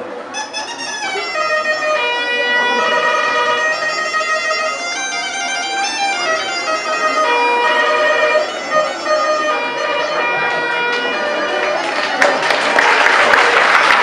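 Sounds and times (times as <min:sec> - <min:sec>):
reed pipe folk melody: 0:00.0 - 0:14.0.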